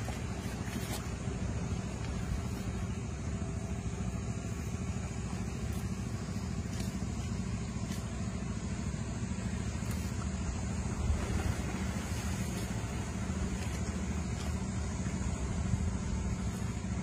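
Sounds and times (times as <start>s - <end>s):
sea waves: 0.0s - 8.0s, 9.7s - 17.0s.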